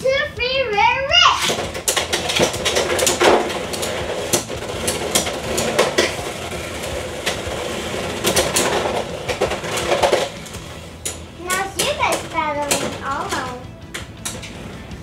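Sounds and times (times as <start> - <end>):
spinning tops whirring: 1.1 - 15.0
tops clacking together: 1.4 - 14.8.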